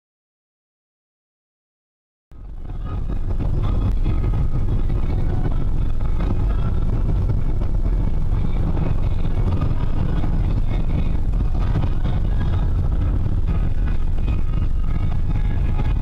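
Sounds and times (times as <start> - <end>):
car engine and road rumble: 2.3 - 16.0.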